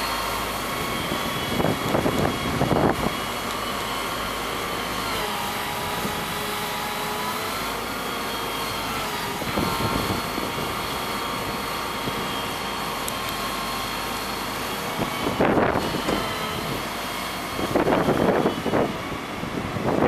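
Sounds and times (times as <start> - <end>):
excavator hum with high whine: 0.0 - 20.0.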